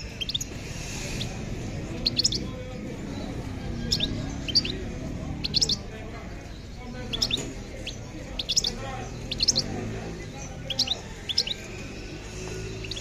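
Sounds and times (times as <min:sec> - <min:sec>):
low background murmur: 0:00.0 - 0:13.0
songbirds chirping: 0:00.0 - 0:13.0.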